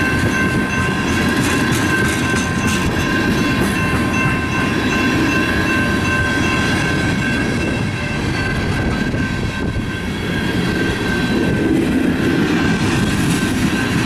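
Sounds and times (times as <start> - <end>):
high-pitched ringing tones: 0.0 - 14.0
train wheels rumbling on rail: 0.0 - 14.0.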